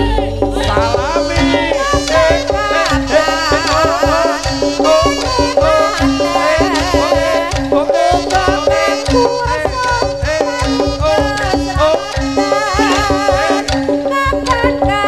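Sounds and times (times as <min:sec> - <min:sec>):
hand drumming: 0:00.0 - 0:15.0
held tone: 0:00.0 - 0:15.0
ornamented lead melody: 0:00.0 - 0:15.0.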